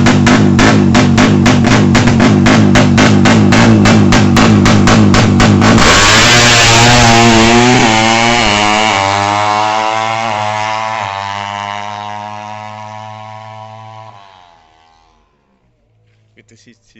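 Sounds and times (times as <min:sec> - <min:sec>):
motorcycle engine revving and shifting: 0:00.0 - 0:15.6.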